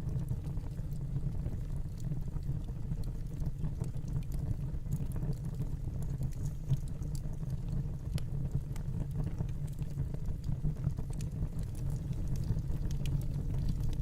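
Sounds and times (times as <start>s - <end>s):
fire crackling and popping: 0.0s - 14.0s
fire flames rumbling: 0.0s - 14.0s.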